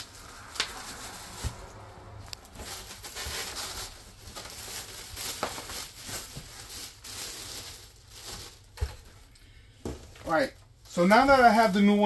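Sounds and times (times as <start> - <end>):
plastic wrap and cardboard rustling: 0.0 - 12.0.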